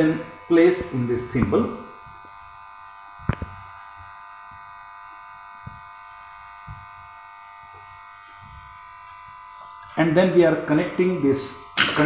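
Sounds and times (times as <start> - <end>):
high electrical whine: 0.0 - 12.0.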